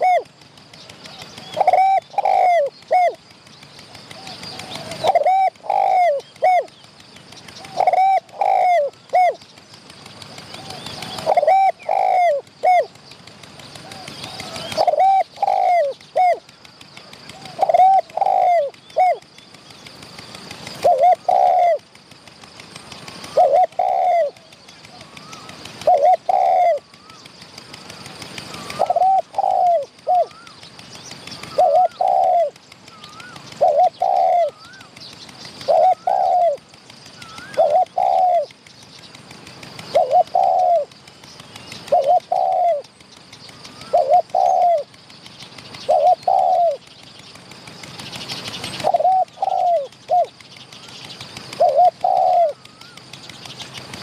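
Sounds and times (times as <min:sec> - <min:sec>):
dove cooing: 0:00.0 - 0:09.5, 0:10.1 - 0:19.3, 0:20.2 - 0:21.8, 0:22.4 - 0:27.2, 0:27.8 - 0:38.6, 0:39.5 - 0:45.0, 0:45.7 - 0:46.9, 0:47.8 - 0:54.0
bird chirps: 0:00.0 - 0:54.0.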